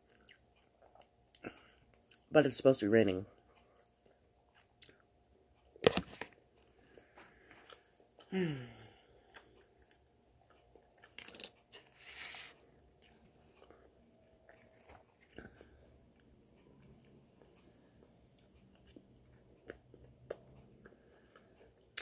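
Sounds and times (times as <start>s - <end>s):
faint chewing: 0.0s - 2.3s, 3.4s - 22.0s.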